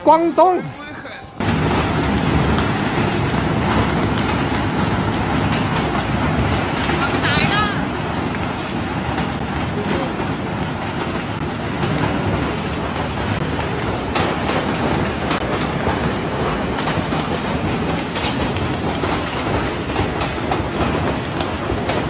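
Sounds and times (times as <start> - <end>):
hailstones striking surfaces: 1.4 - 22.0.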